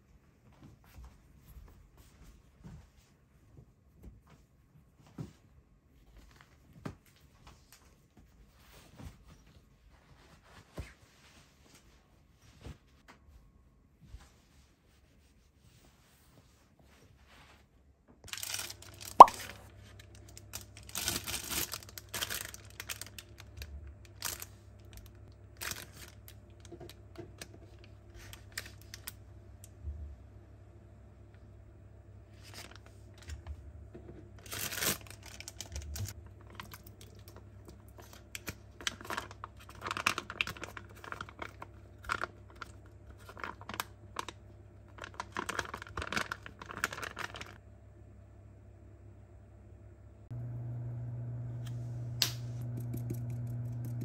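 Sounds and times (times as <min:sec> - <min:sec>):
faint steady low hum: 0:00.0 - 0:54.0.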